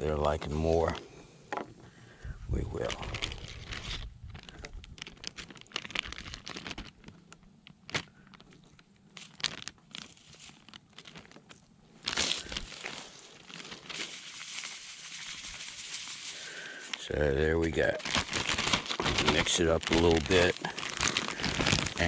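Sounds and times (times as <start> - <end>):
plastic bag crinkling: 2.6 - 22.0.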